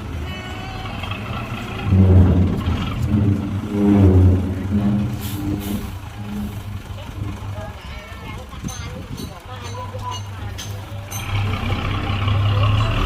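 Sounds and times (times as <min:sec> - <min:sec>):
heavy diesel engine revving: 0:00.0 - 0:08.6, 0:10.4 - 0:13.0.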